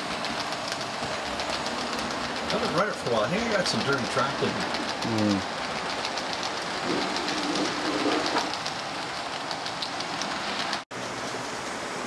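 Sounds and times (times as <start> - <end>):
model train wheels clicking: 0.0 - 10.8.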